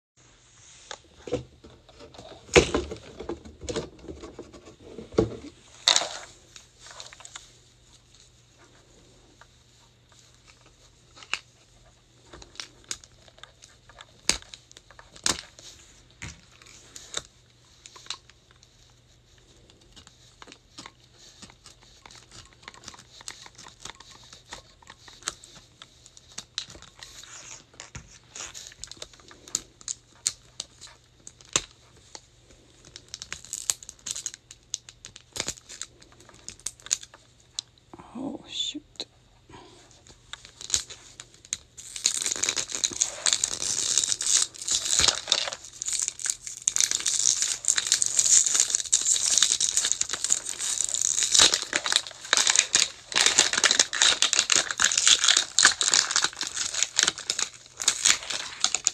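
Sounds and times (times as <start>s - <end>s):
plastic wrap crinkling and tearing: 0.6s - 37.8s, 39.9s - 58.9s.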